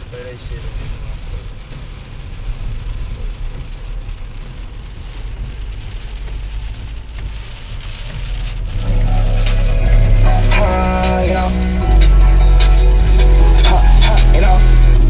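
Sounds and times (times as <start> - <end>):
low rumble: 0.0 - 15.0
rain-like hiss: 0.0 - 15.0.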